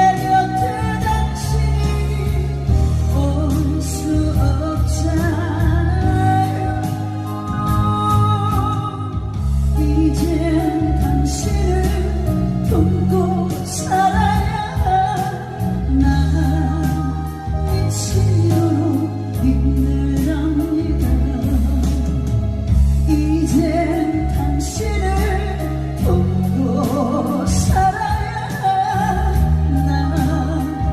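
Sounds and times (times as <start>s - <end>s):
instrumental accompaniment: 0.0s - 30.9s
person singing a slow ballad: 0.0s - 30.9s.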